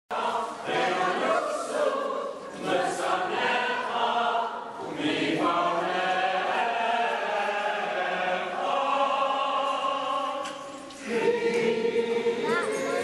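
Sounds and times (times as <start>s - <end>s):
congregation singing in unison: 0.1s - 13.0s.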